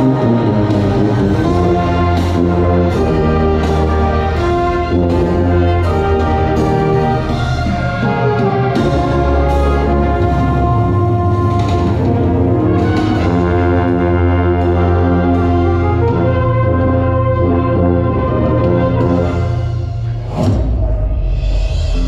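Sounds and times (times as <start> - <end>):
brass ensemble playing chords: 0.0 - 20.3
low tuba notes: 0.0 - 20.6.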